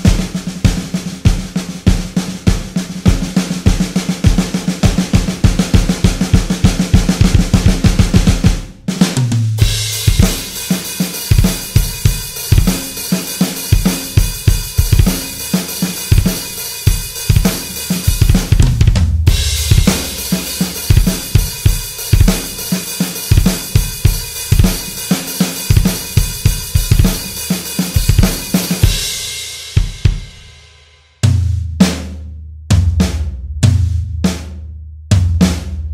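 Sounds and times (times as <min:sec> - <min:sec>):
kick drum strokes: 0:00.0 - 0:30.5, 0:31.2 - 0:32.1, 0:32.7 - 0:34.5, 0:35.1 - 0:35.9
cymbals and hi-hat: 0:00.0 - 0:34.6.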